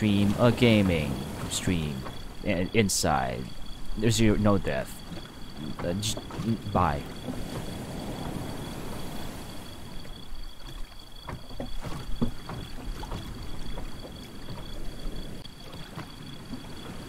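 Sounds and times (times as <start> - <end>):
water lapping against boat: 0.0 - 17.0.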